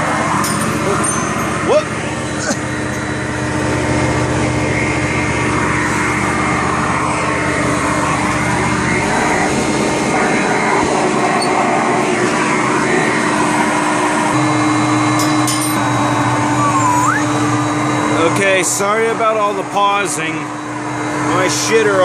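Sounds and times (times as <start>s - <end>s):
vacuum cleaner humming: 0.0s - 22.0s.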